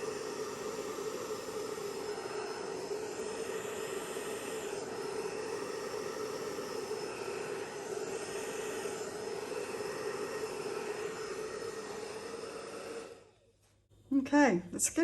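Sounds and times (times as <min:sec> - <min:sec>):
hairdryer running: 0:00.0 - 0:13.5.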